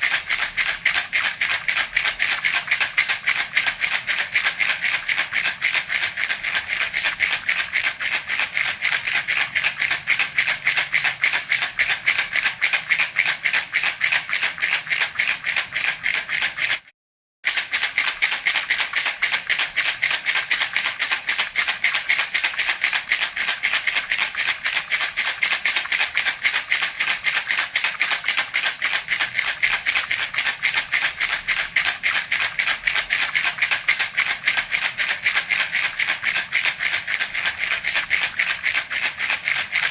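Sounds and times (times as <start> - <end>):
baby rattle shaken: 0.0 - 16.9, 17.5 - 39.9.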